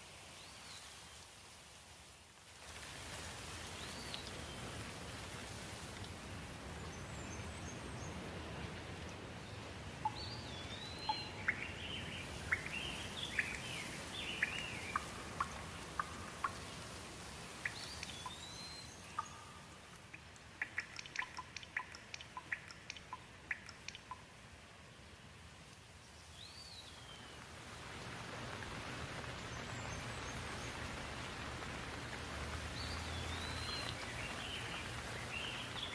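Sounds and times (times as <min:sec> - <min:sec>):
steady water noise: 0:00.0 - 0:35.9.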